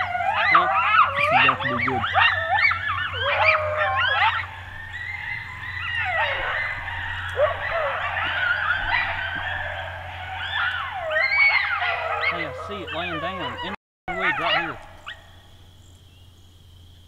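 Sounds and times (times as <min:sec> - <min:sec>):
coyotes yip-howling: 0:00.0 - 0:15.9.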